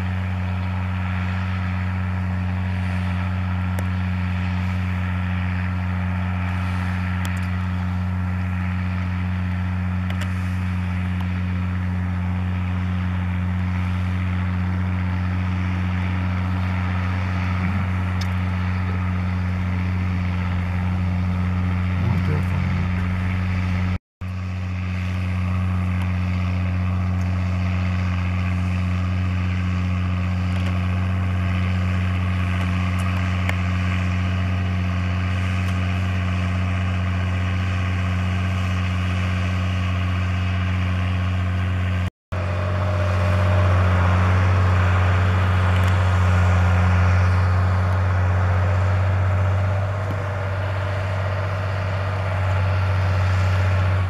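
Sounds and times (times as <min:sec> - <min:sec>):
diesel tractor engine droning: 0:00.0 - 0:54.0.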